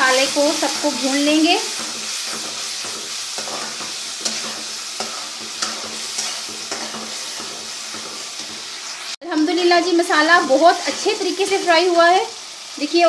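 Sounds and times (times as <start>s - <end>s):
masala sizzling in a pot: 0.0s - 13.0s.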